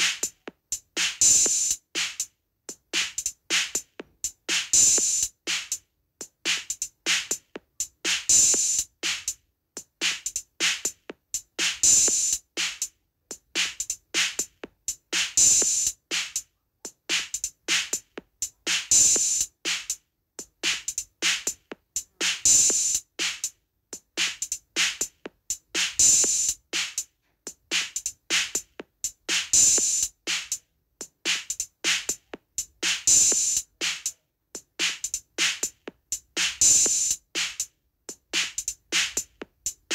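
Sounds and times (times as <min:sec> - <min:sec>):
rhythmic drum beat: 0:00.0 - 0:39.9.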